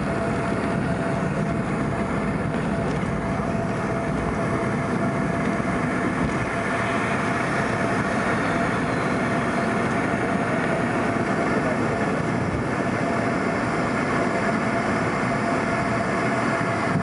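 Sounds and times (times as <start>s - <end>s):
jet engines and runway rumble: 0.0s - 17.0s.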